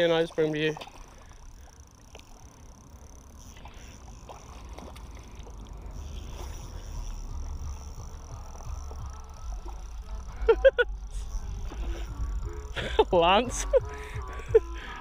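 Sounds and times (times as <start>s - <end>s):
fishing reel clicks and rustles: 0.0s - 15.0s.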